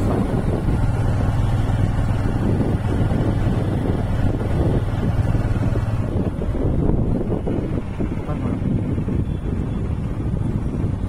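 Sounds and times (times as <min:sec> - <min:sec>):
vehicle engine and road drone: 0:00.0 - 0:11.0
wind rumbling on microphone: 0:00.0 - 0:11.0.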